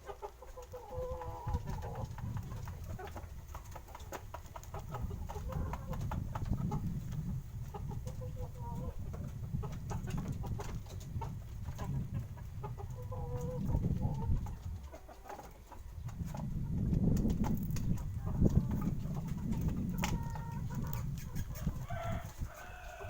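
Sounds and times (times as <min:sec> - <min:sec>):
birds clucking: 0:00.0 - 0:23.0.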